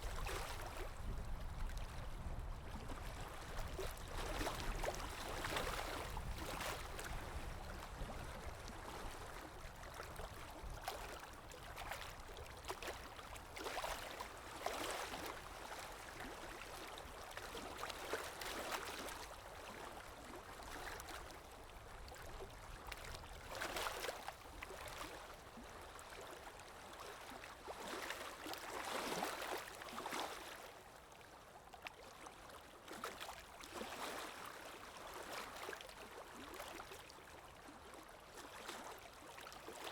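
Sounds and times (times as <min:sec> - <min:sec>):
river water lapping: 0:00.0 - 0:39.9.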